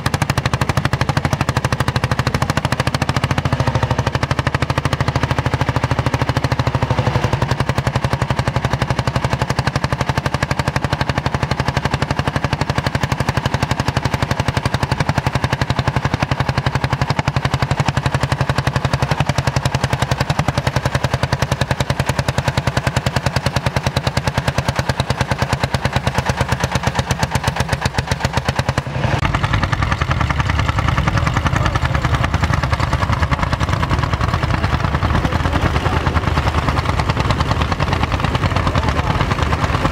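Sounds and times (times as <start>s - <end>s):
tractor engine chuffing: 0.0s - 39.9s.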